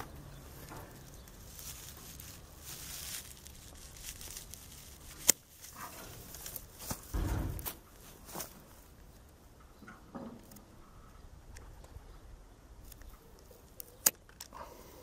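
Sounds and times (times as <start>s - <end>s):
rustling of dry grass and twigs: 0.0s - 14.9s.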